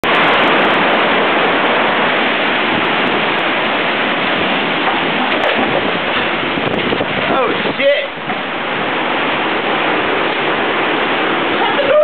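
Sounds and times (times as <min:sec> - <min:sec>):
heavy rain: 0:00.0 - 0:12.0
wind: 0:00.0 - 0:12.0.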